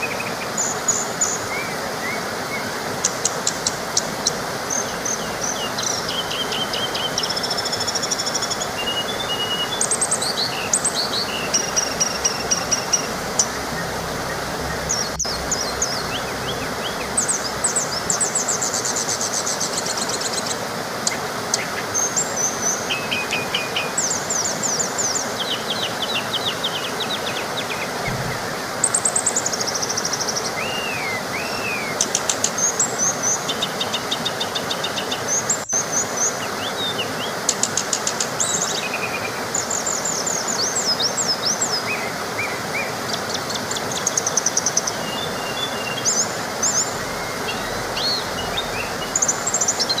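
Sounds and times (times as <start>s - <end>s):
birds trilling and chirping: 0.0s - 50.0s
small waterfall rushing: 0.0s - 50.0s.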